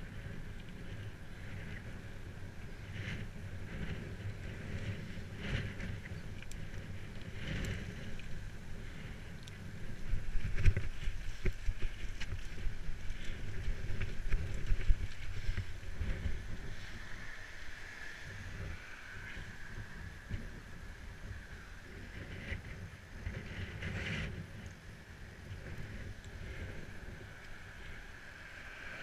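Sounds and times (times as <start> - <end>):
bicycle rumbling and rattling: 0.0 - 29.0
wind on microphone: 0.0 - 29.0.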